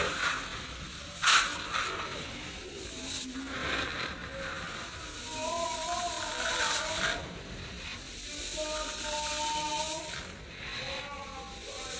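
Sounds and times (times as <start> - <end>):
dry granular material crumbling: 0.0 - 11.9.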